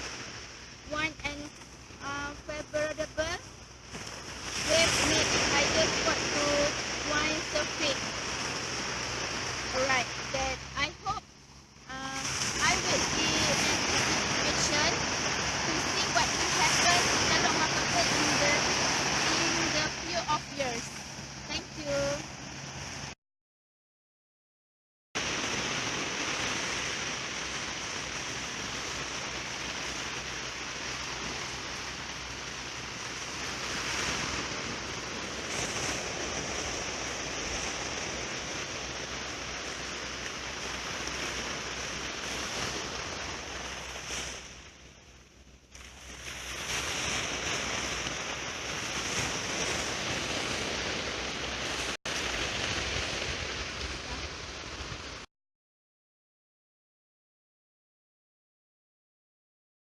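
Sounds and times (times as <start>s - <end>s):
wind on microphone: 0.0s - 23.1s, 25.2s - 44.8s, 45.7s - 55.2s
surf washing on beach: 0.0s - 23.2s, 25.2s - 55.3s.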